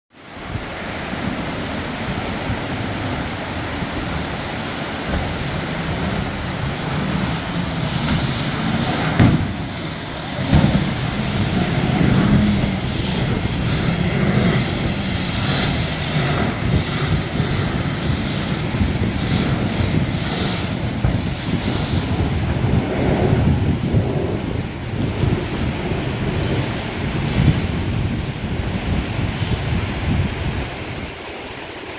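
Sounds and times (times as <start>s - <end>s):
jet boat engine: 0.1s - 31.9s
rushing water: 0.1s - 31.9s
high wavering whine: 0.2s - 28.5s.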